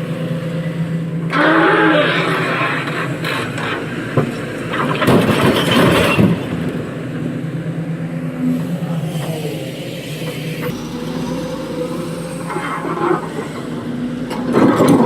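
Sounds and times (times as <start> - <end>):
diesel earthmoving machinery running: 0.0 - 15.0.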